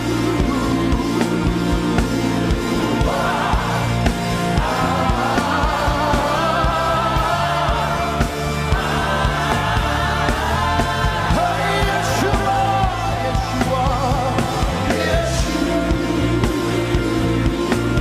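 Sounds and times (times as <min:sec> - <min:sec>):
band with drums and bass: 0:00.0 - 0:18.0
voices singing: 0:00.0 - 0:18.0.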